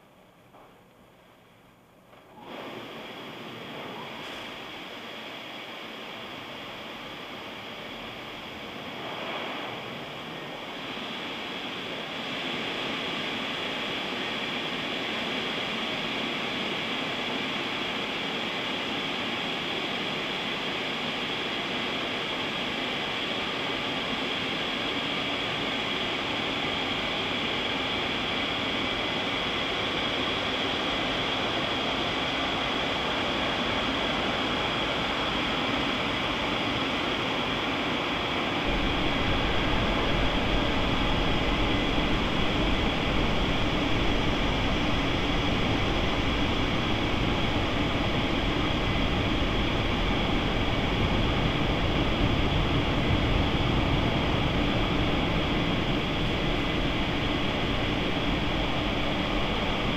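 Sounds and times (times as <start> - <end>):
car wash water spray and machinery: 1.9 - 59.9.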